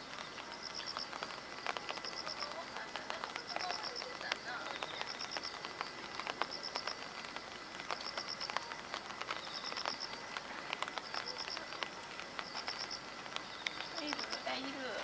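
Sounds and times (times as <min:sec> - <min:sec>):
faint clicks: 0:00.1 - 0:14.9.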